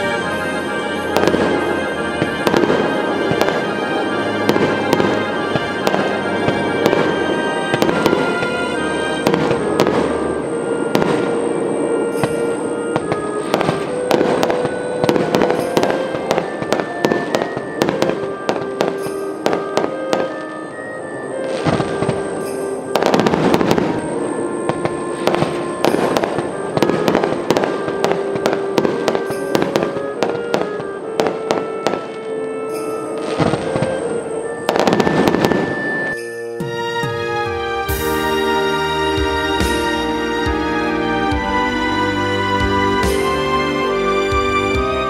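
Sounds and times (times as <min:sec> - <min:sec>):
fireworks bursting: 0:00.0 - 0:45.0
music: 0:00.0 - 0:45.0.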